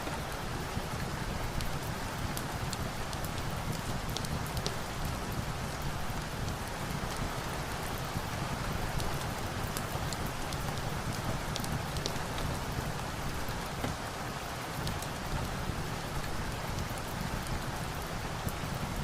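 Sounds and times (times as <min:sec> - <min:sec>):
small sharp raindrop ticks: 0:00.0 - 0:19.0
steady rain falling: 0:00.0 - 0:19.0.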